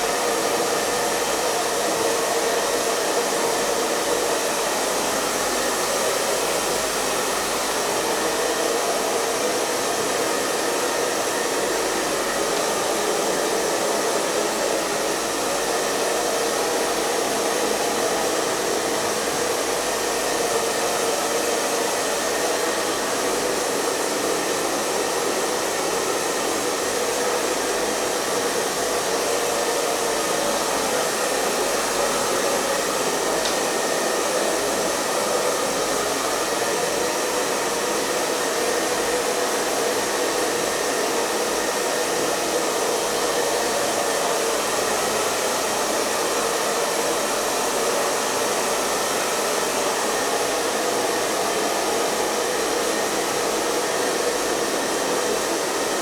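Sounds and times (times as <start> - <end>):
hair dryer airflow: 0.0 - 56.0.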